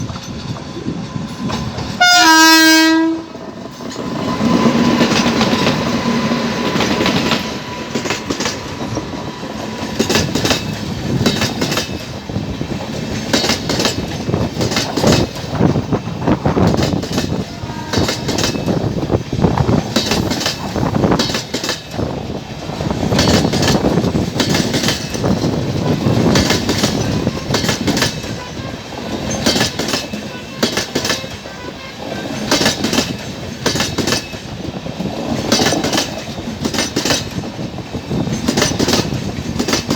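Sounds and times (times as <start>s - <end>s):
train wheels clicking over rail joints: 0.0s - 2.2s, 3.0s - 39.9s
train rumble: 0.0s - 39.9s.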